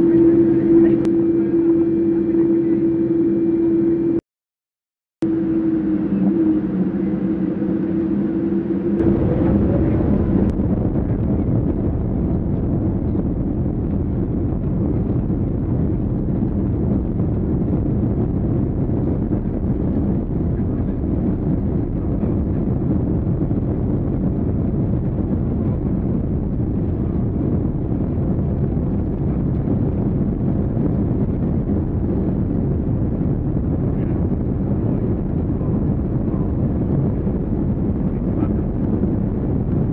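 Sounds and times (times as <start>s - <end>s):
vehicle engine drone: 0.0s - 4.2s, 5.2s - 39.9s
wind noise on microphone: 0.0s - 4.2s, 5.2s - 39.9s.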